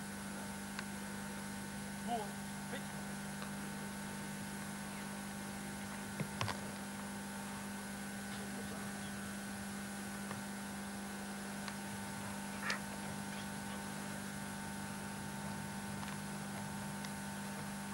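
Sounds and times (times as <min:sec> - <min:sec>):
electrical hum: 0:00.0 - 0:17.9.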